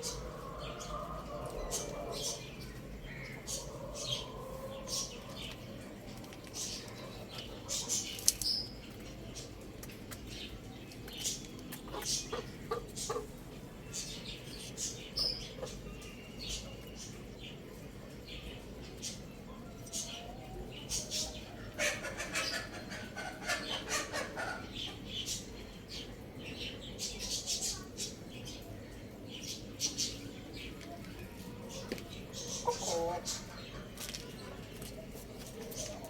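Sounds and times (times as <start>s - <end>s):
young chickens chirping: 0.0s - 36.0s.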